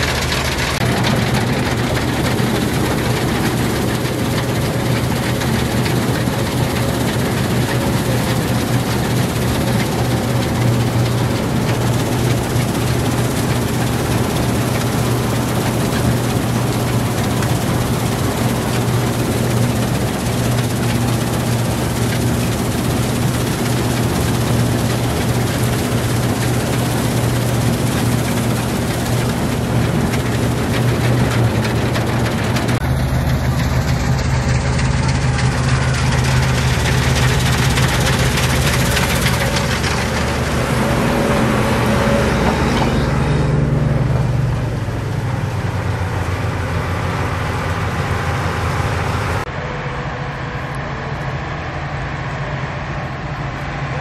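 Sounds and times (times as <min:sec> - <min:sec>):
combine harvester engine drone: 0:00.0 - 0:54.0
threshing machinery noise: 0:00.0 - 0:54.0.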